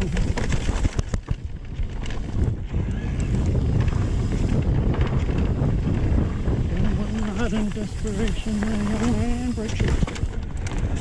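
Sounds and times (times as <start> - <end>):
bike rumbling and rattling: 0.0 - 11.0
wind buffeting microphone: 0.0 - 11.0.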